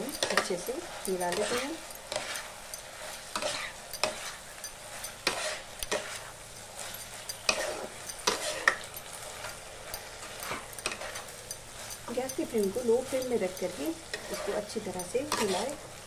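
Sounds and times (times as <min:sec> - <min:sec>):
metal spatula scraping pan: 0:00.0 - 0:16.0
sauce sizzling softly: 0:00.0 - 0:16.0.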